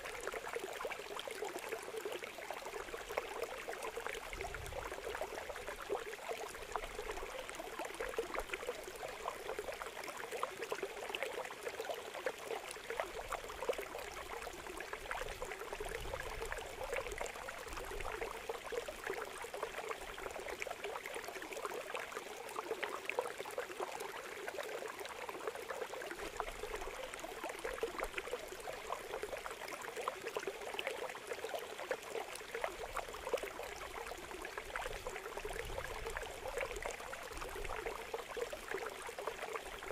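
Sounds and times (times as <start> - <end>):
water pouring through a channel: 0.0 - 39.9.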